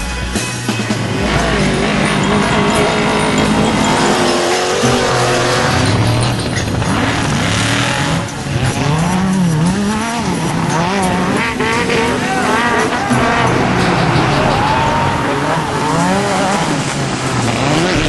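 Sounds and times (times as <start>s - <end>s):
race vehicle engines revving: 0.0s - 18.0s
steady rush of noise: 0.0s - 18.0s.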